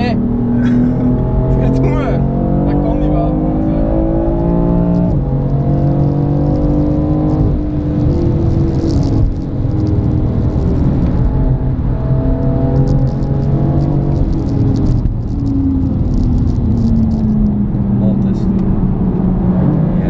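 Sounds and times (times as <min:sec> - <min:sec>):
car engine pulling hard: 0:00.0 - 0:20.0
road and tyre noise: 0:00.0 - 0:20.0.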